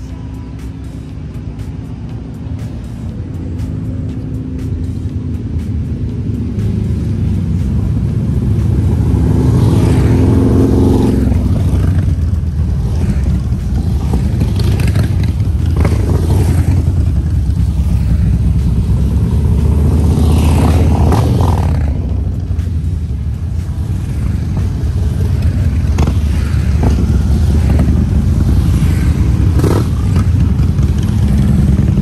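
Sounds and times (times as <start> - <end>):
motorcycle engines rumbling: 0.0 - 32.0.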